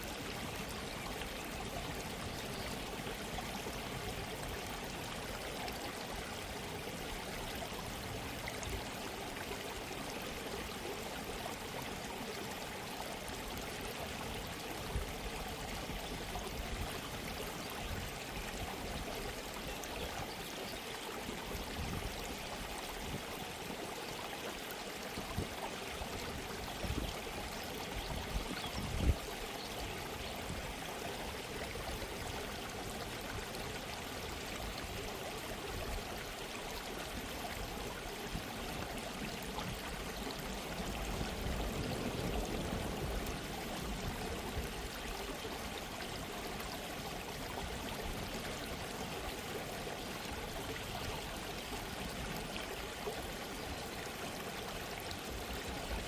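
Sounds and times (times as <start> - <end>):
stream water babbling: 0.0 - 56.0.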